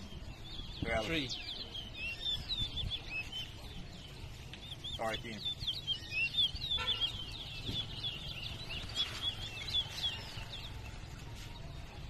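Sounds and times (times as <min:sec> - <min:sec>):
caged finch singing chirps: 0:00.0 - 0:11.9.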